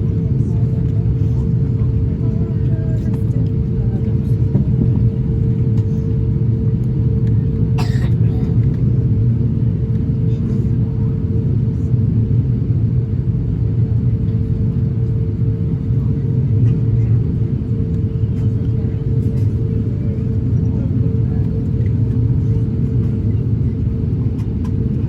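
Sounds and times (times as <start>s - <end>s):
aircraft cabin rumble and hum: 0.0s - 25.0s.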